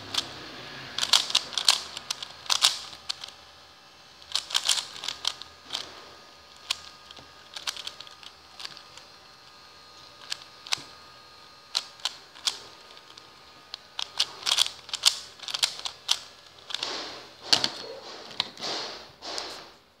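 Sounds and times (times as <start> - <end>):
puzzle cube plastic clicking: 0.0 - 3.5, 4.1 - 19.7.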